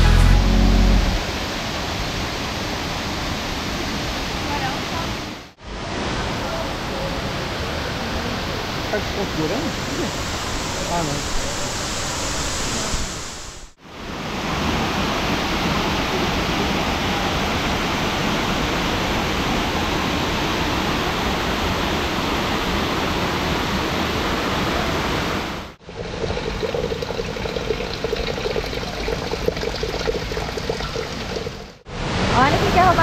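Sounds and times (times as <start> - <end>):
running water rushing: 0.7 - 33.0.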